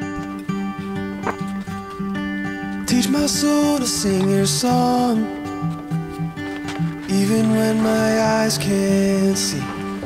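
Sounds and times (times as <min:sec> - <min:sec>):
acoustic guitar tune: 0:00.0 - 0:10.0.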